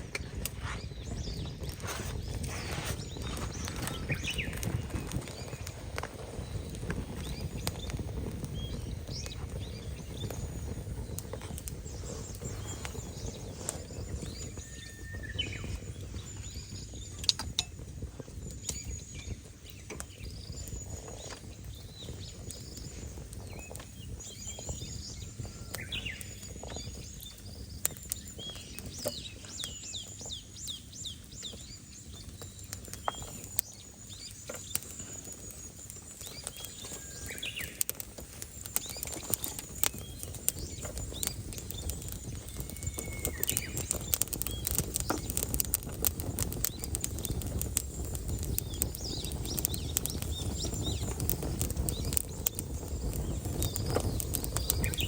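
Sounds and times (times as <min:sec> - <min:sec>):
raindrops pattering: 0:00.0 - 0:55.0
small birds chirping: 0:00.0 - 0:55.0.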